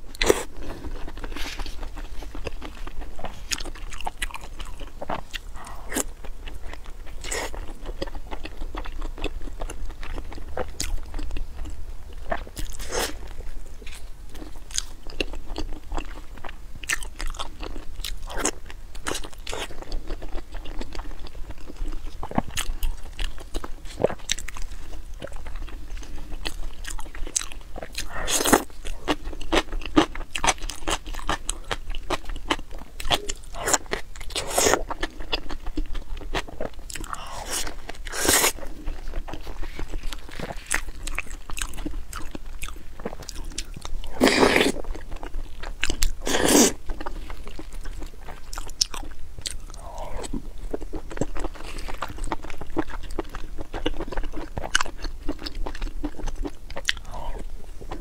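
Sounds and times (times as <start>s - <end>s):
person chewing crunchy food: 0.1s - 58.0s.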